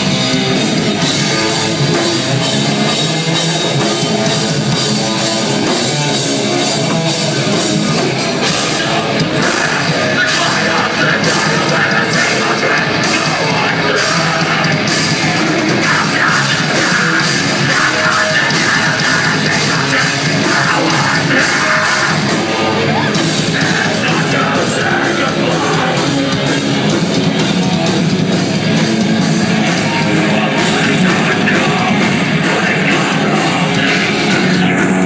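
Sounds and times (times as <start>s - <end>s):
distorted guitars: 0.0s - 35.0s
drums beating: 0.0s - 35.0s.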